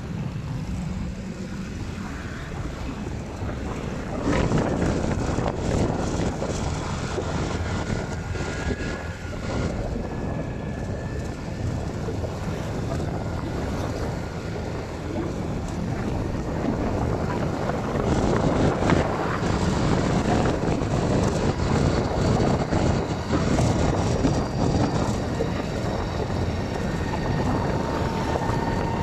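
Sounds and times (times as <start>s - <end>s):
vehicle engine and tyres droning: 0.0s - 29.0s
wind rushing over microphone: 0.0s - 29.0s.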